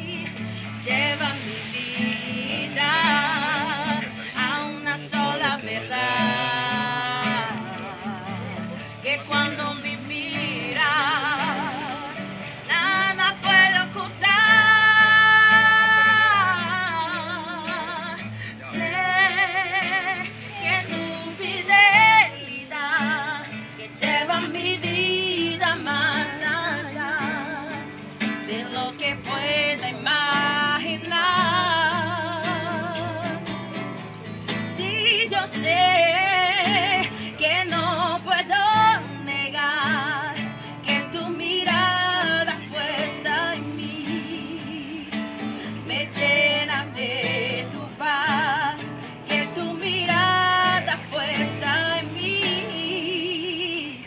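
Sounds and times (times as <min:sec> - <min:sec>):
acoustic guitar: 0:00.0 - 0:54.0
woman singing with vibrato: 0:00.0 - 0:54.0.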